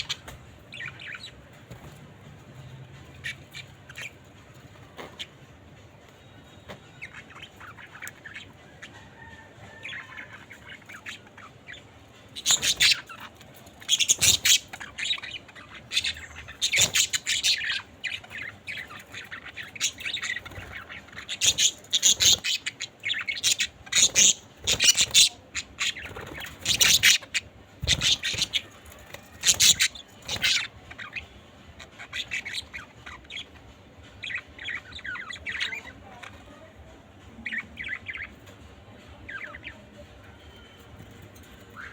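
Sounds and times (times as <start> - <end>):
budgerigars chirping and squawking: 0.0 - 36.7, 37.4 - 41.9.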